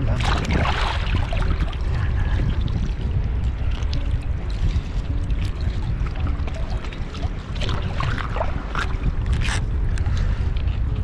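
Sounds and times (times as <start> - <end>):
water lapping and trickling: 0.0 - 11.0
wind rumble on microphone: 0.0 - 11.0.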